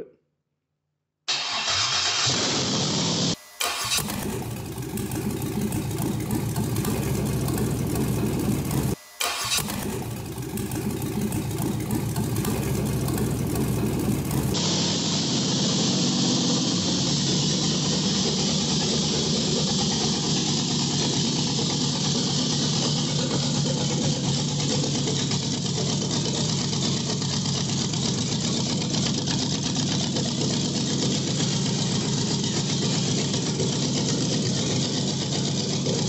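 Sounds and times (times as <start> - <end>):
engine idling: 1.3 - 36.0.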